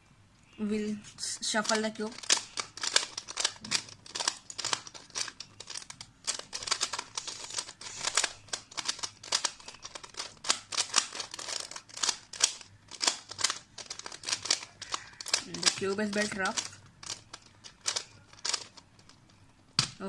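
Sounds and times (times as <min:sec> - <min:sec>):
puzzle cube clicking and grating: 0:01.4 - 0:19.4.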